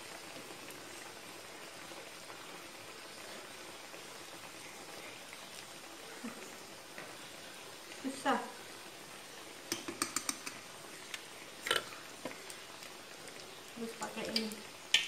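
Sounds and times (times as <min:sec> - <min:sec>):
fritter sizzling in hot oil: 0:00.0 - 0:15.0.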